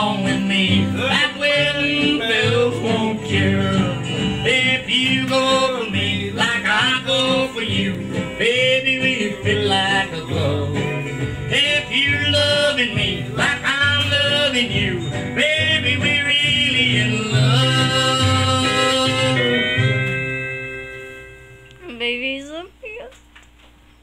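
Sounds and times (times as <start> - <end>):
country song with singing: 0.0 - 20.9
plucked guitar: 0.0 - 22.0.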